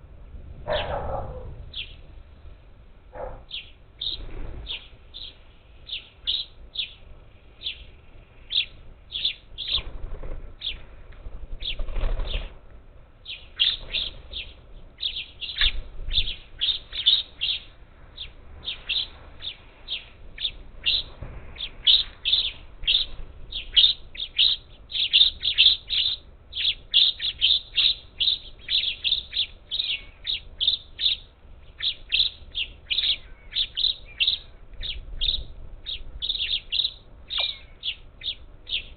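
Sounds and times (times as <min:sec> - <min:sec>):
parakeets chirping: 0:00.7 - 0:02.0, 0:03.2 - 0:10.9, 0:11.6 - 0:12.6, 0:13.2 - 0:38.9.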